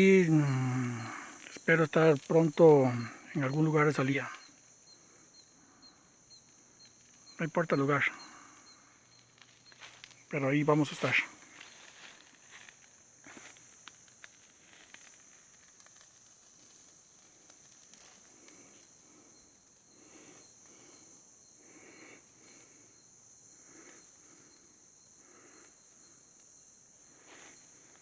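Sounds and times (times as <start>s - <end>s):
high insect trill: 0.0s - 28.0s.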